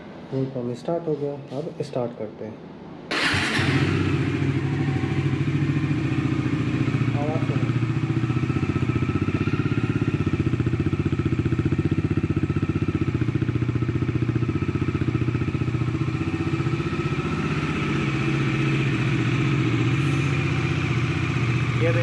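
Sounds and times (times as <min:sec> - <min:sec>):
motorcycle engine idling: 0:03.2 - 0:22.0.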